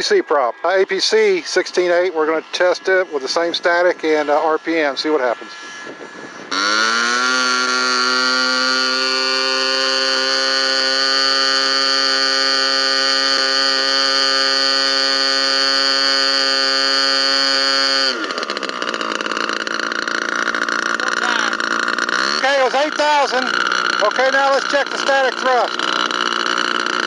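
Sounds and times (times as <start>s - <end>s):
model airplane engine revving: 0.0s - 27.0s.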